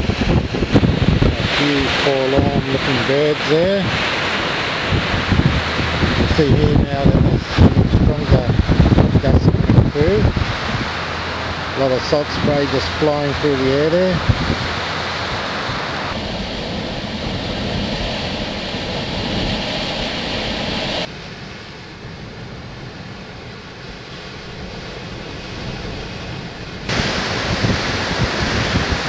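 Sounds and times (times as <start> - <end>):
wind buffeting microphone: 0.0 - 21.1, 22.2 - 29.0
waves on water: 0.0 - 29.0.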